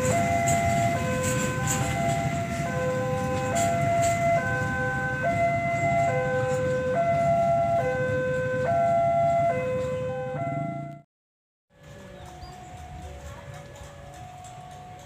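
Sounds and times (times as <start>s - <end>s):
freight train rolling on rails: 0.0s - 10.9s, 11.8s - 15.0s
level crossing warning alarm: 0.0s - 11.1s, 11.8s - 15.0s.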